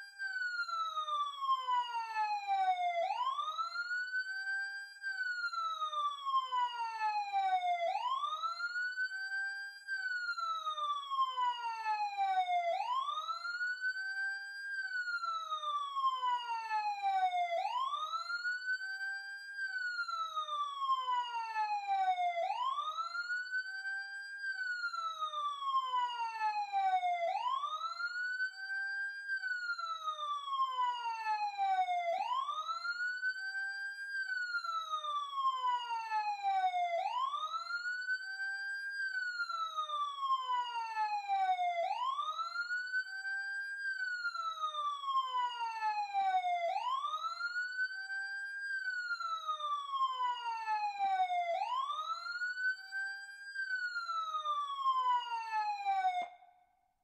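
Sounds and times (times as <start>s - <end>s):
police siren wailing: 0.0s - 56.5s.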